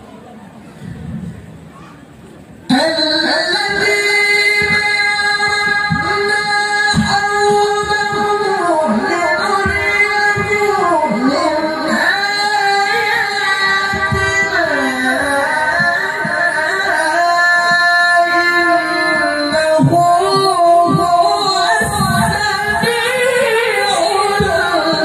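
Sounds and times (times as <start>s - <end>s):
man reciting melodically: 2.7s - 25.0s.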